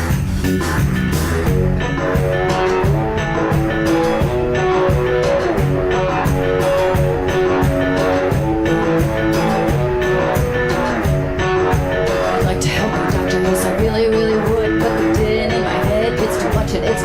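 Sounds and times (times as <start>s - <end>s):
bass: 0.0s - 17.0s
drum kit: 0.0s - 17.0s
guitar: 0.0s - 17.0s.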